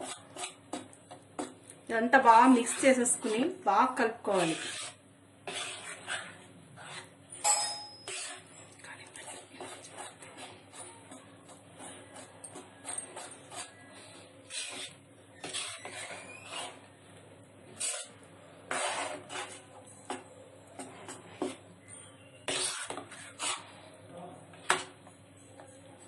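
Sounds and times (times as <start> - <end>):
metal spoon scraping a pan: 0.0 - 1.6, 2.2 - 16.9, 17.7 - 23.9.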